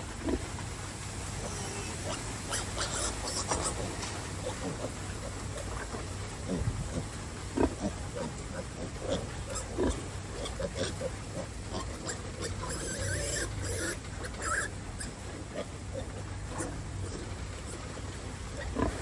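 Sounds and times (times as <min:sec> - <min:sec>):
pigs grunting: 0:00.0 - 0:19.0
pigs squealing: 0:01.3 - 0:17.9, 0:18.5 - 0:19.0.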